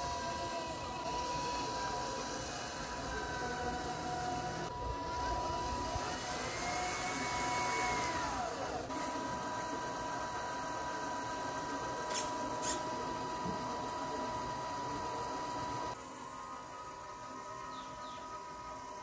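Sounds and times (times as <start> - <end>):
small electric motor whining: 0.0 - 19.0.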